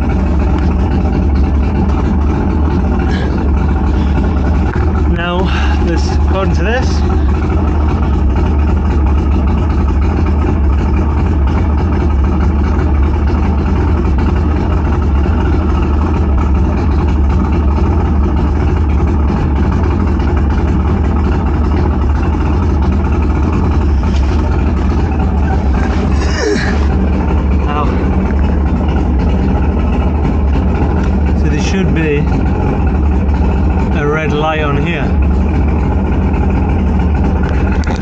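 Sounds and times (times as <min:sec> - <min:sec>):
outboard motor idling: 0:00.0 - 0:38.0.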